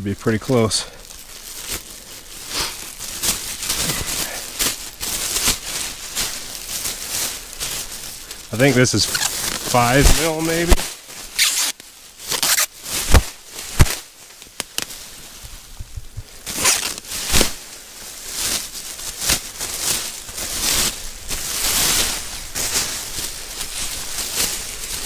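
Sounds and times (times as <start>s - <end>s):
plastic sheeting crinkling: 0.0s - 25.0s
plastic sheeting snaps: 0.5s - 15.6s, 16.4s - 25.0s.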